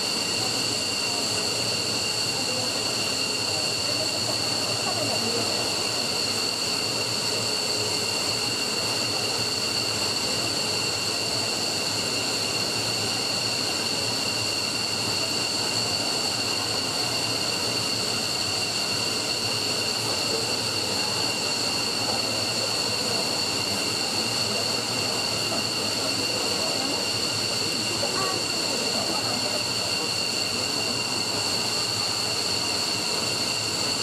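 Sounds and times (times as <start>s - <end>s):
high-pitched engine whine: 0.0s - 34.0s
jet engines running: 0.0s - 34.0s.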